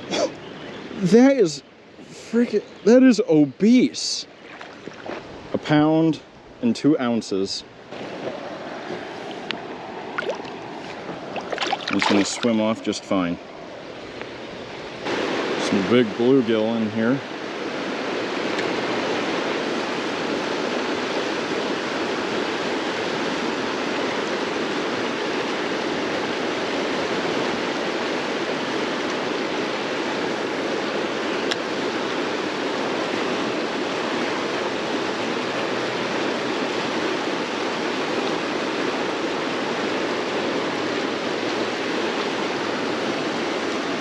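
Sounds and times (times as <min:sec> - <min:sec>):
flowing river water: 0:00.0 - 0:44.0.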